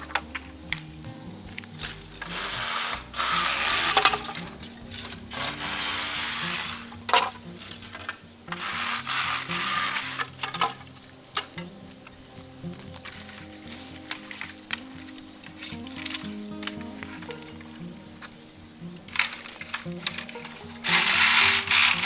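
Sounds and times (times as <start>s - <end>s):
background music: 0.0s - 22.0s
dry leaves rustling and crackling: 0.0s - 22.0s.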